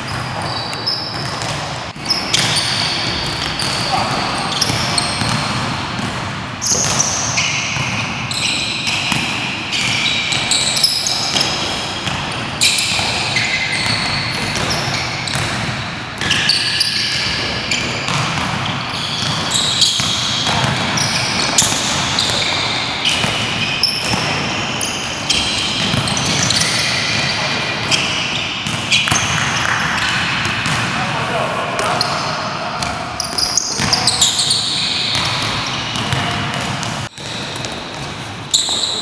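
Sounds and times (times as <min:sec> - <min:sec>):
basketball bouncing: 0:00.0 - 0:24.6, 0:25.3 - 0:31.0, 0:31.8 - 0:38.8
sneaker squeaks on floor: 0:00.0 - 0:39.0.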